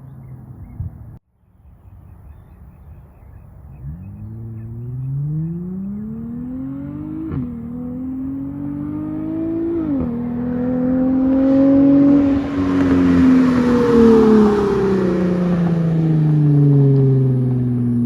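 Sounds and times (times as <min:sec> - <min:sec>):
road and wind noise: 0:00.0 - 0:18.0
car engine accelerating: 0:02.5 - 0:18.0.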